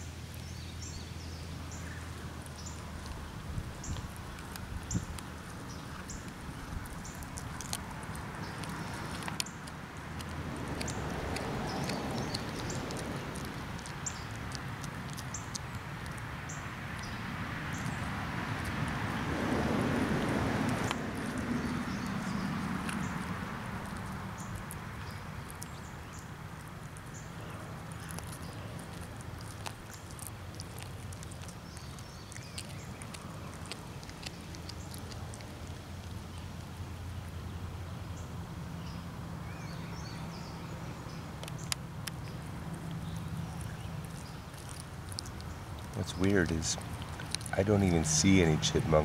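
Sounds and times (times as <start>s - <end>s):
cat chewing and crunching bone: 0.0s - 49.0s
low outdoor hum: 0.0s - 49.0s.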